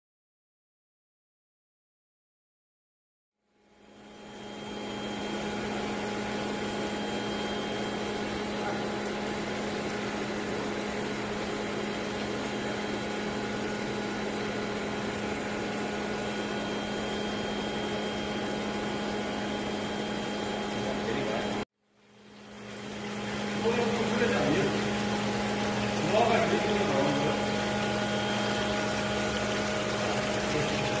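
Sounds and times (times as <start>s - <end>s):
aeration machine humming and hissing: 3.7s - 21.6s, 22.2s - 31.0s.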